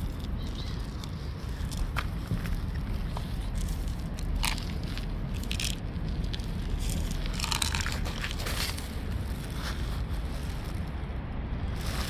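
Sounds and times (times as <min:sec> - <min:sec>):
cats crunching dry kibble: 0:00.0 - 0:11.0
steady low rumble: 0:00.0 - 0:12.0.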